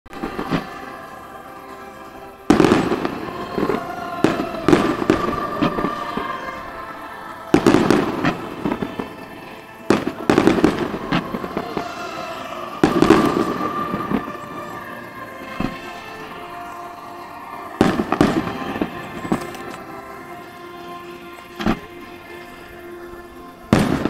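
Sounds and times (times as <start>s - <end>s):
fireworks bangs: 0.2s - 1.0s, 2.4s - 6.4s, 7.5s - 23.0s, 23.7s - 24.0s.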